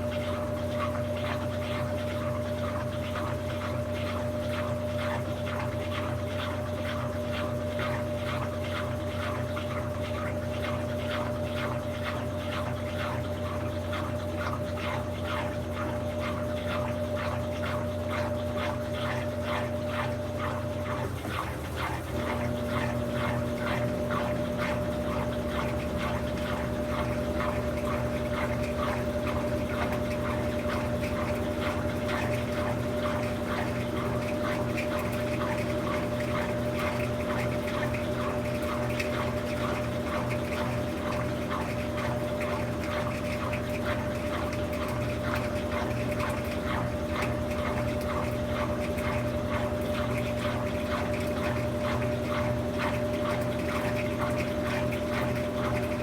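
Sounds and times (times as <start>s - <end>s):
rhythmic swish of washing drum: 0.0s - 56.0s
washing machine pump hum: 0.0s - 56.0s.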